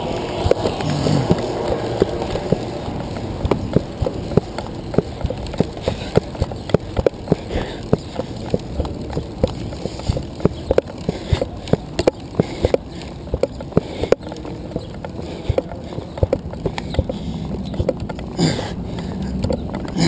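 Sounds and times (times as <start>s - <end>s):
chain and crank rattling: 0.0s - 20.0s
road and wind noise: 0.0s - 20.0s.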